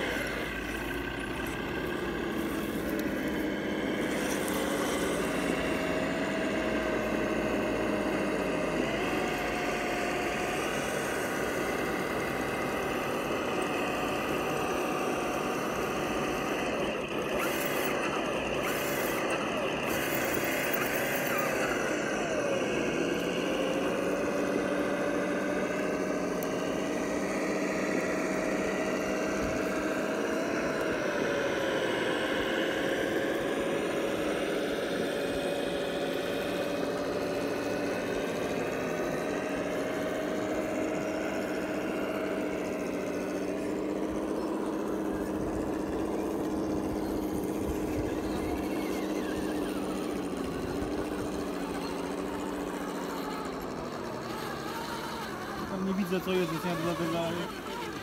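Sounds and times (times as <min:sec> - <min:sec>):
electric motor and gears whining: 0:00.0 - 0:58.0.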